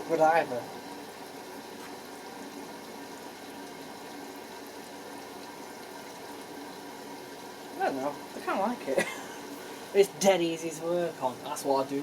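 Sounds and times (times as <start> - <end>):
water flowing into washing machine: 0.0 - 12.0.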